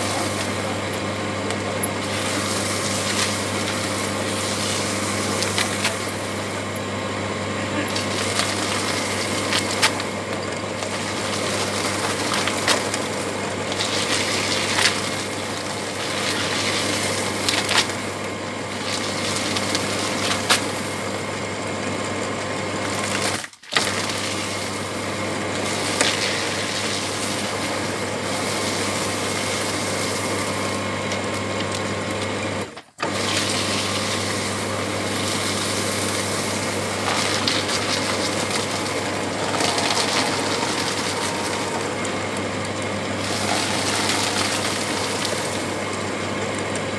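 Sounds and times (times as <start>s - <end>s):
paper shredder motor humming: 0.0s - 46.9s
shredder cutters tearing paper: 0.0s - 46.9s.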